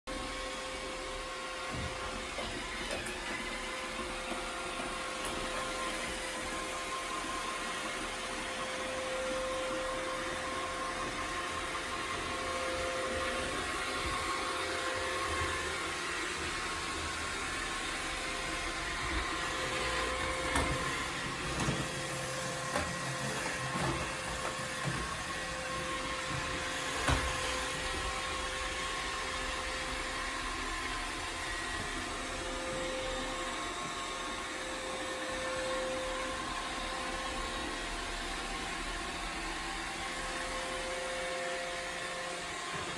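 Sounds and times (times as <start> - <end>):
robot vacuum whirring: 0.1 - 42.9.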